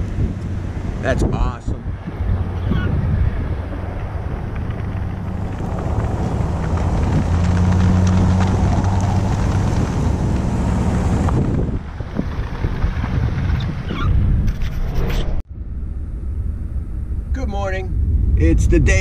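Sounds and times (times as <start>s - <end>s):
truck engine drone: 0.0s - 19.0s.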